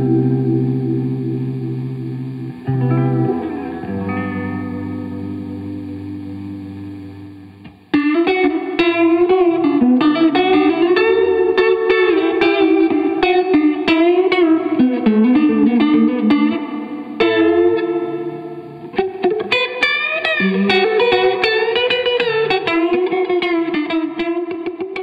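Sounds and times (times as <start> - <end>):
electric guitar chord: 0.0 - 25.0
picked guitar notes with chorus: 0.0 - 25.0.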